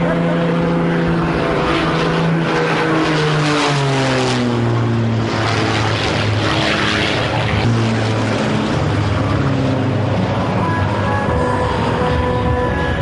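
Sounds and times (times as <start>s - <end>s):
propeller plane engine overhead: 0.0s - 13.0s.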